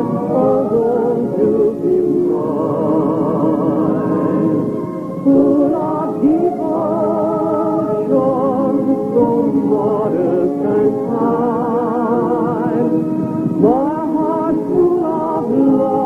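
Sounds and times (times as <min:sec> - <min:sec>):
person singing slow love song: 0:00.0 - 0:16.0.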